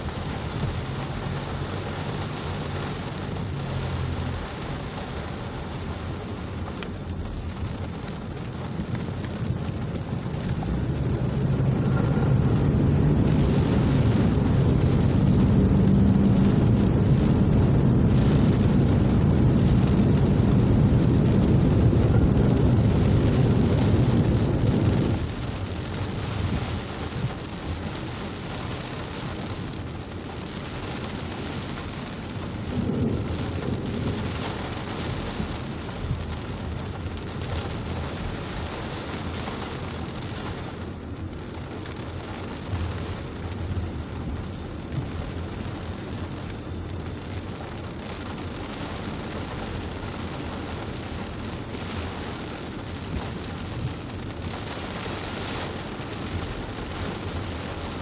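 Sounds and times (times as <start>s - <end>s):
deep rumble: 0.0s - 58.0s
heavy rain drumming on car roof: 0.0s - 58.0s.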